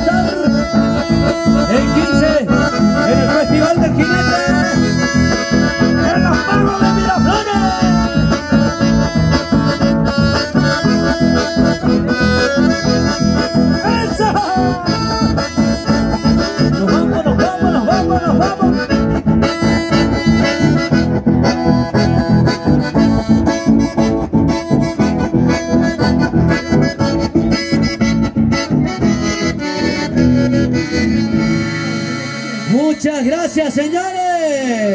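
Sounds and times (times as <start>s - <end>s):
acoustic guitar accompaniment: 0.0s - 33.0s
button accordions playing melody: 0.0s - 33.2s.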